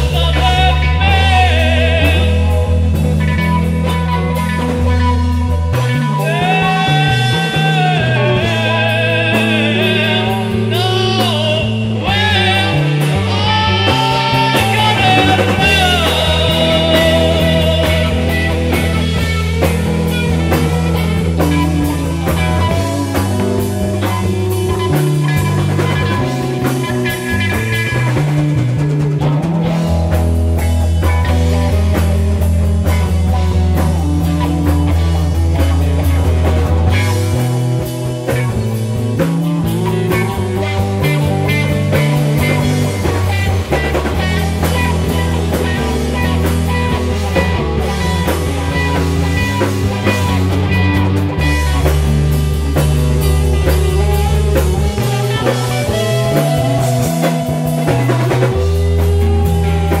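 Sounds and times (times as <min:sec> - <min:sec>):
guitar notes bending upward: 0:00.0 - 1:00.0
low bass notes: 0:00.0 - 1:00.0
psychedelic rock band playing: 0:00.0 - 1:00.0.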